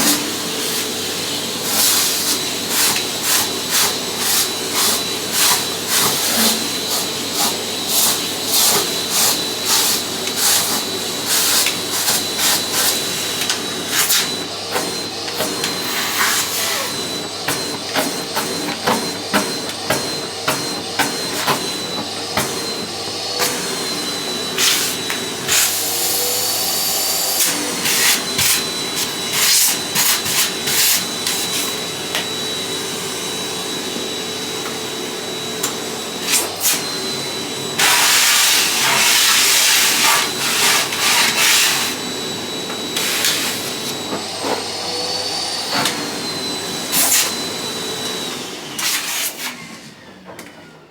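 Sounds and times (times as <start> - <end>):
vacuum cleaner whining: 0.0 - 50.9.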